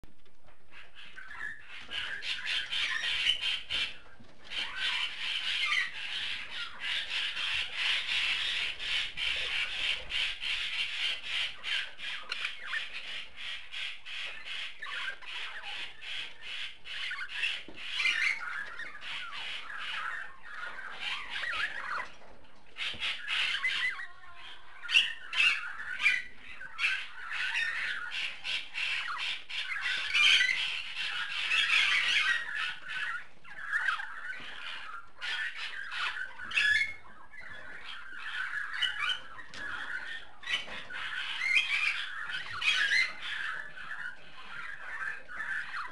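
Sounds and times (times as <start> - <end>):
budgerigar chattering: 0.8 - 22.1, 22.8 - 45.9.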